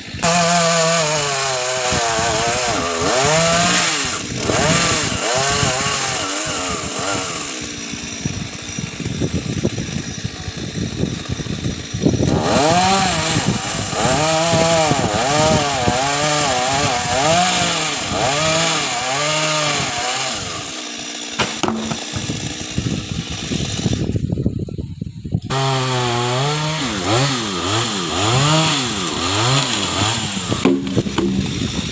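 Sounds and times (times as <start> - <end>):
chainsaw cutting tree: 0.0 - 24.3, 25.4 - 31.9.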